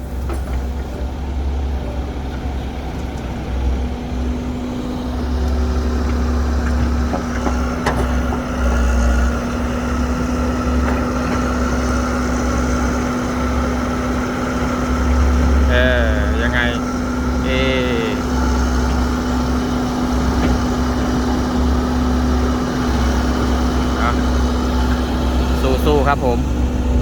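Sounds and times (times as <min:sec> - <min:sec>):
diesel engine rumble: 0:00.0 - 0:27.0
faint machine whine: 0:00.0 - 0:27.0.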